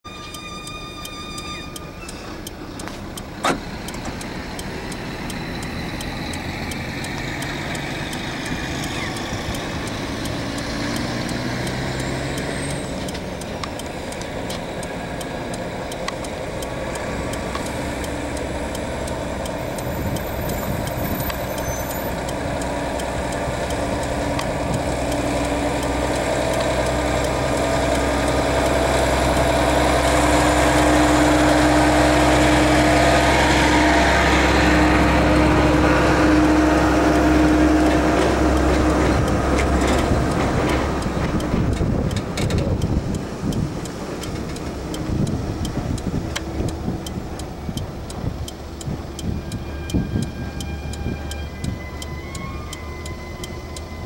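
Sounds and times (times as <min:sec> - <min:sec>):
highway traffic tyre noise: 0:00.0 - 0:54.0
truck diesel engine drone: 0:00.1 - 0:54.0.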